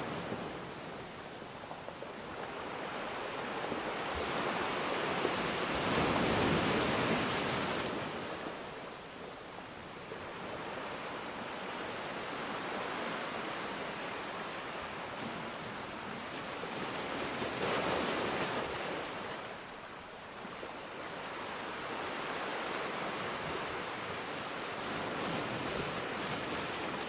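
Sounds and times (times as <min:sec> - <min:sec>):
sea waves washing ashore: 0:00.0 - 0:27.0.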